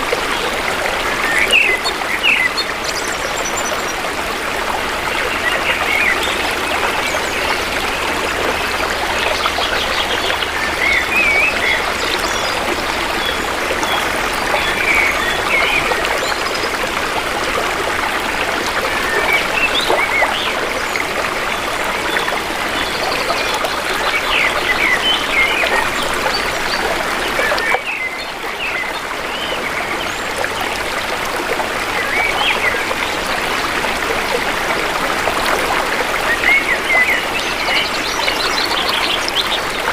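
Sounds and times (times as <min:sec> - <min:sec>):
shallow river water rushing: 0:00.0 - 0:39.9
water bubbling gurgles: 0:00.0 - 0:39.9.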